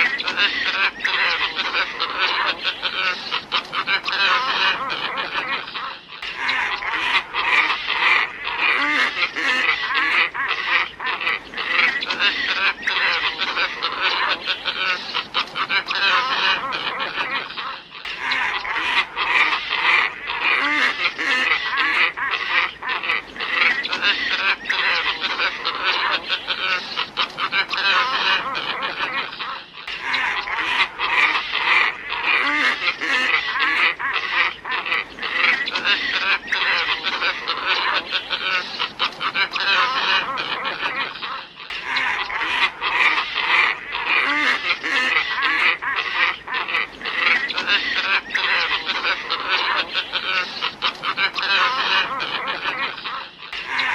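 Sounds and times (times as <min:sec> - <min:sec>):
birds hoarse grunting calls: 0:00.0 - 0:53.9.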